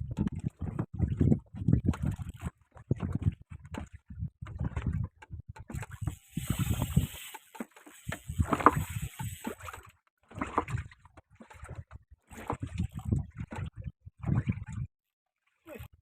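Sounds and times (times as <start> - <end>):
water slapping against boat hull: 0.0 - 14.9.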